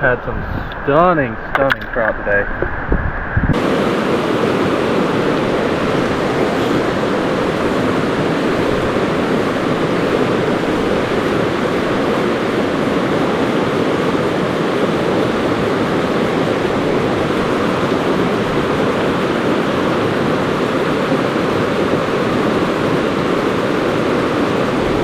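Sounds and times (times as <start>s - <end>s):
mountain stream rushing: 3.5s - 25.0s.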